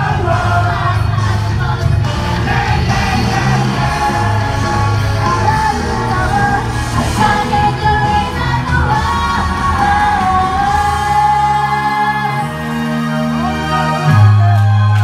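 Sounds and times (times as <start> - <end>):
women singing: 0.0 - 14.7
live pop-rock music: 0.0 - 15.0
steady bass: 0.0 - 15.0.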